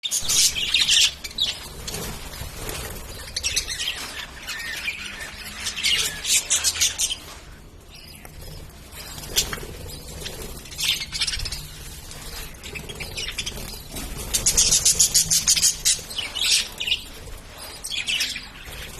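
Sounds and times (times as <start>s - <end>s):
lovebirds chirping: 0.0s - 18.9s.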